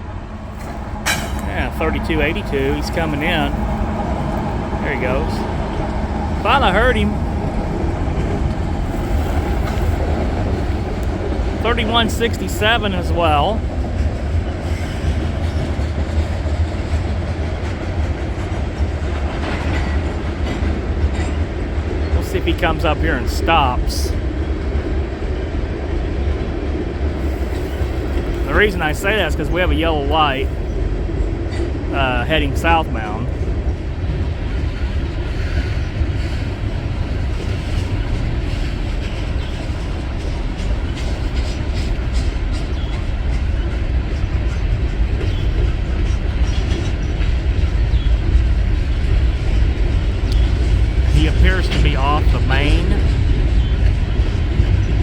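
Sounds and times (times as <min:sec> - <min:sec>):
diesel freight train rumbling: 0:00.0 - 0:55.0.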